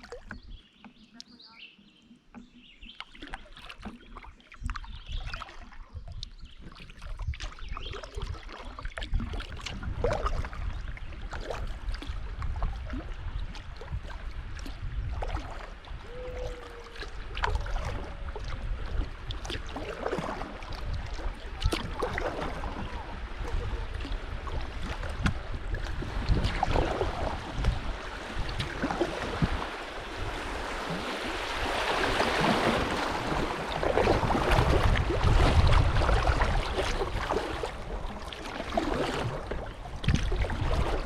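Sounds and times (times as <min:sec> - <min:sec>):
paddle splashes: 0:00.0 - 0:41.0
river water splashing: 0:00.0 - 0:41.0
low rumble on microphone: 0:02.6 - 0:41.0.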